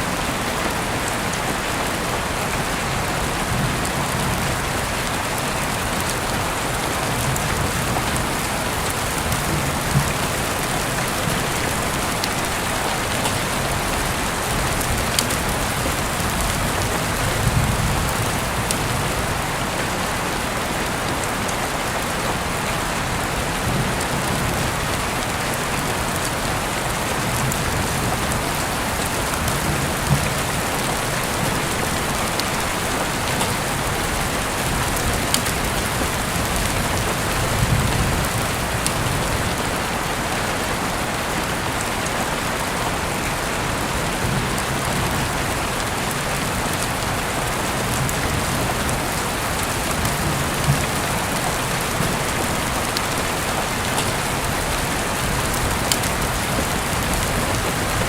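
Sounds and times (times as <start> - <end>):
heavy rain through a window: 0.0 - 58.0
raindrops tapping: 0.5 - 58.0.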